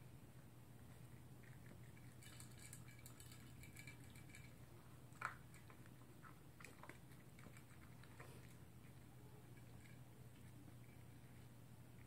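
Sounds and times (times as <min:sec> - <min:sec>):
dog eating from plastic bowl: 0:00.8 - 0:12.0.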